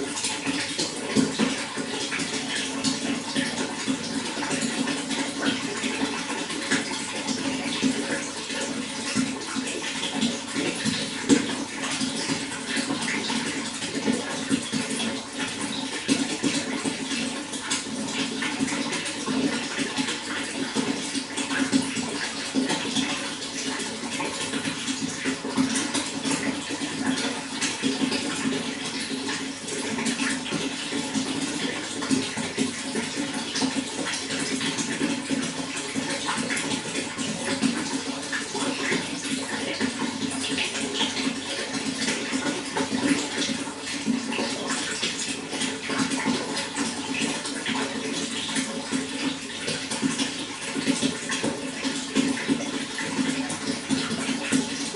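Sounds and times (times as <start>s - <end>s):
running water splashing: 0.0s - 54.9s.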